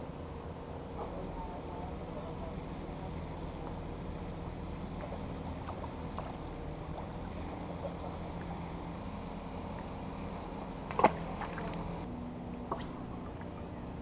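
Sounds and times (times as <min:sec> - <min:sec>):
steady low water noise: 0:00.0 - 0:14.0.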